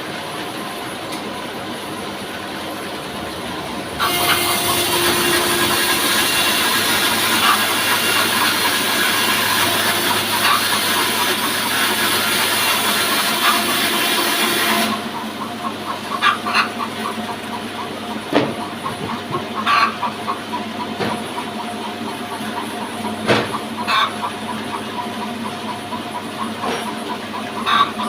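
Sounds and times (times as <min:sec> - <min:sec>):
band sawmill running: 0:00.0 - 0:28.0.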